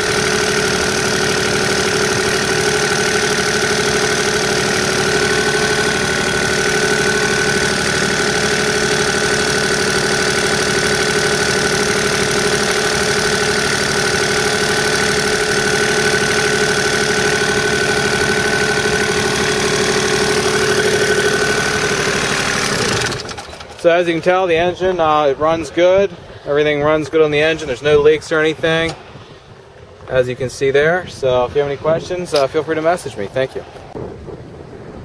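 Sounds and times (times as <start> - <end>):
diesel engine running: 0.0 - 29.0
steady whine: 0.0 - 34.1.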